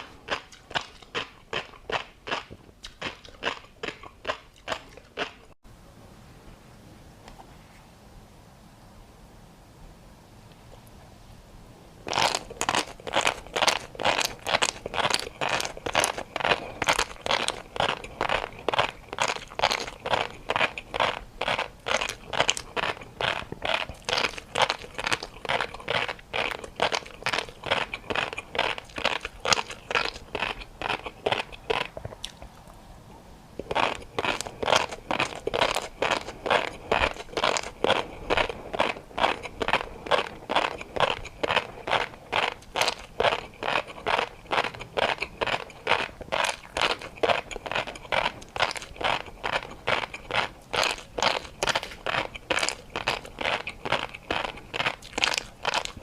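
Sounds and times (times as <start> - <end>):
person chewing crunchy food: 0.0 - 5.6, 12.0 - 32.9, 33.6 - 56.0.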